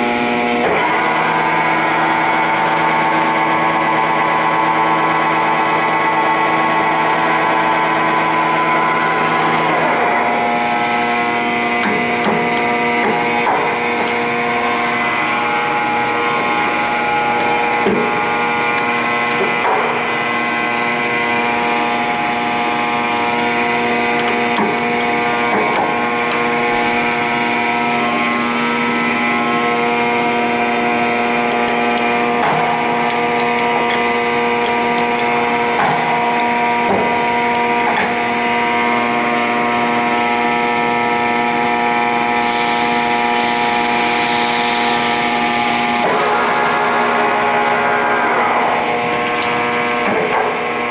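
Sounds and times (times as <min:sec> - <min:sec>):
lathe running with whine: 0:00.0 - 0:50.9.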